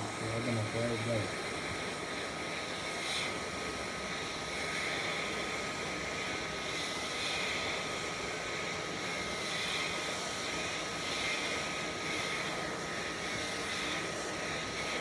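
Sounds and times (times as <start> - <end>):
blower air rushing: 0.0 - 15.0
faint constant whine: 0.0 - 15.0.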